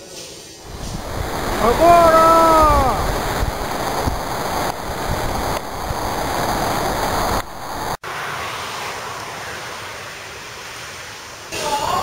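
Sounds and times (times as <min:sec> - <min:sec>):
steady rushing noise: 0:00.6 - 0:11.6.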